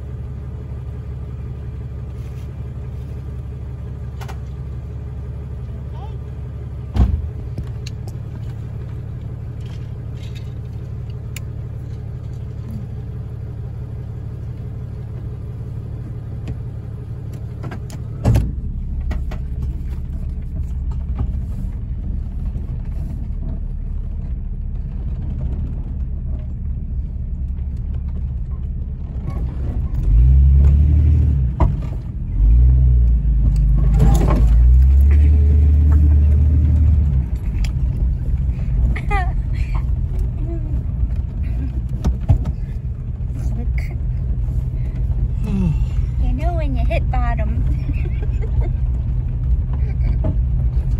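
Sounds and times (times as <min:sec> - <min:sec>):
vehicle engine and road rumble: 0:00.0 - 0:50.9.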